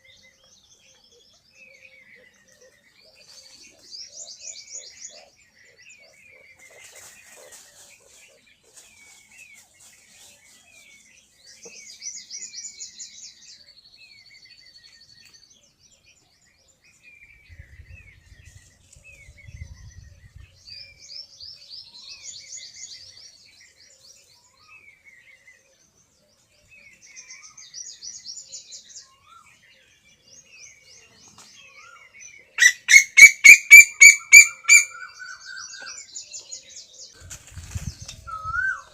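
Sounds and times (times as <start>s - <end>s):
rapid repeated bird calls: 0.0s - 38.9s
small birds chirping: 0.0s - 38.9s.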